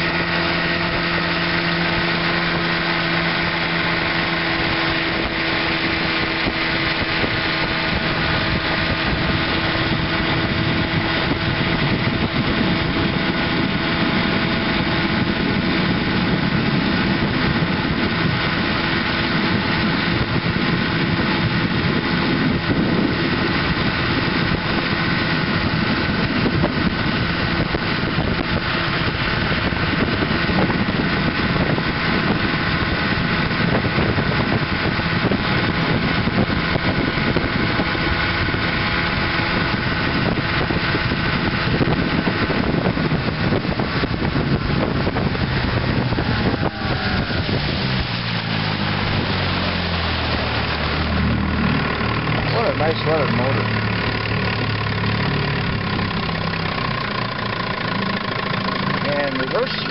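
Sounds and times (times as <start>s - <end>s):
boat wake rushing: 0.0s - 59.9s
outboard motor running: 0.0s - 59.9s.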